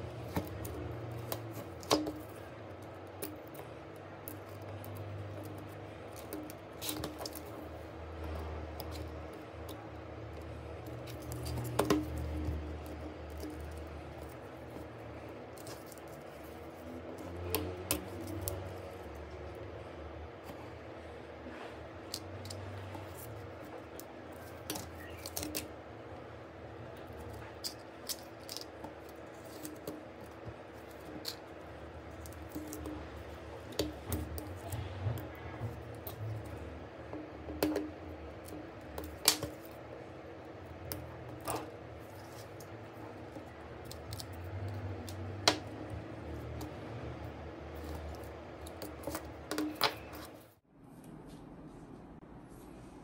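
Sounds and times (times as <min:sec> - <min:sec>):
small tools clicking and tapping: 0:00.0 - 0:20.7, 0:21.5 - 0:50.6
steady low hum: 0:00.0 - 0:53.0.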